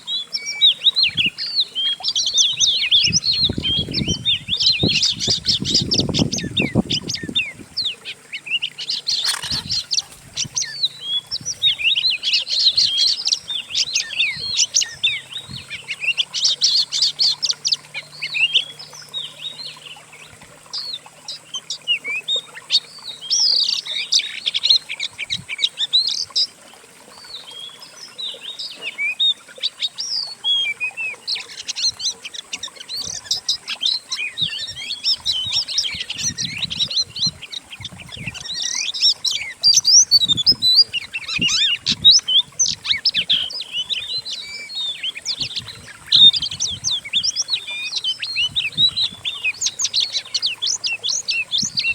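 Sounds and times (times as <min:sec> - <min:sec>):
songbirds chirping and trilling: 0:00.0 - 0:51.9.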